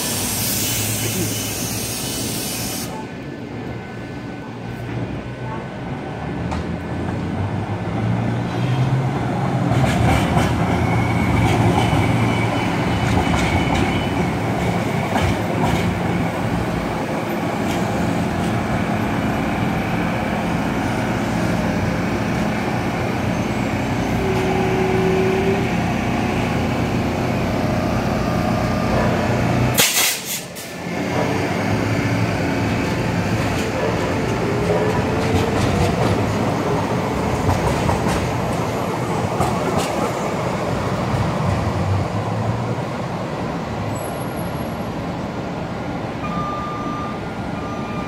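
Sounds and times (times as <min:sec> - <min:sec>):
train wheels rumbling on rail: 0:00.0 - 0:46.3.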